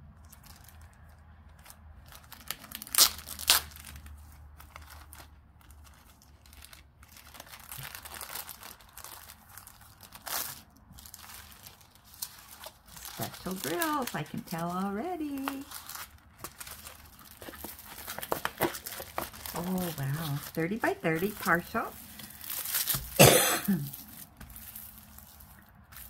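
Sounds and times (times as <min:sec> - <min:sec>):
plastic wrapper crinkling: 0:00.1 - 0:26.0.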